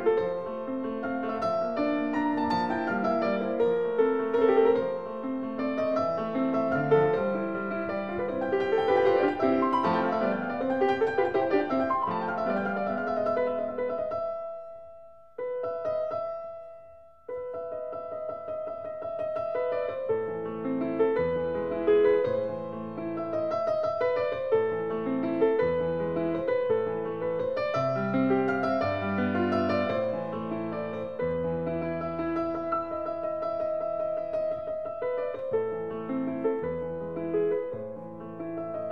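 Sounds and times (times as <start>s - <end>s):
gentle piano music: 0.0s - 38.9s.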